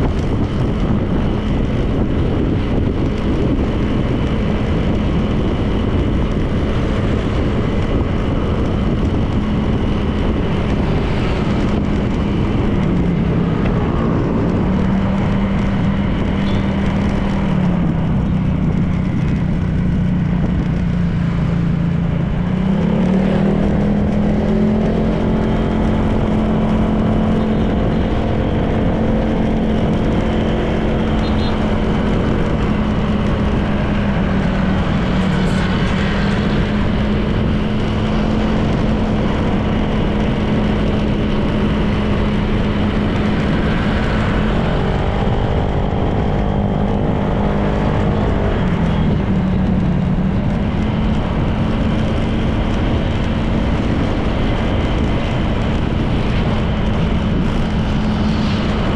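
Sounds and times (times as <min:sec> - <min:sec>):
scooter engine running: 0:00.0 - 0:58.9
wind noise: 0:00.0 - 0:58.9.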